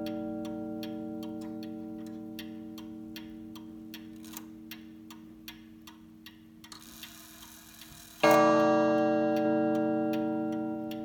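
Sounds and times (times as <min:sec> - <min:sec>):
clock strike ringing: 0:00.0 - 0:05.4, 0:06.7 - 0:11.0
clock mechanism whirr: 0:00.0 - 0:11.0
clock ticking: 0:00.0 - 0:11.0.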